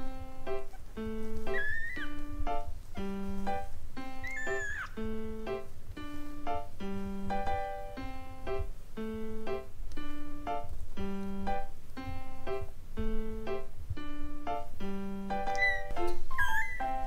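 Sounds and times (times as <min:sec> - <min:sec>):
light keyboard tune: 0:00.0 - 0:17.0.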